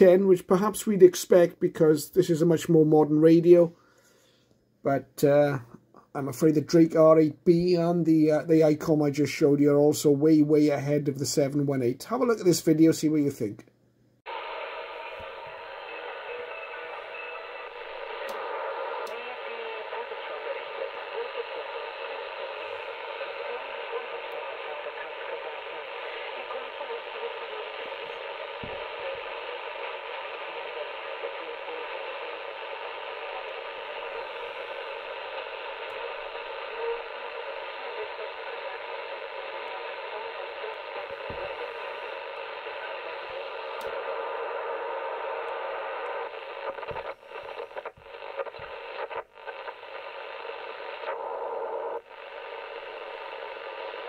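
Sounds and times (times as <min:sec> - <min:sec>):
radio band noise hiss: 0:00.0 - 0:03.8, 0:14.3 - 0:54.0.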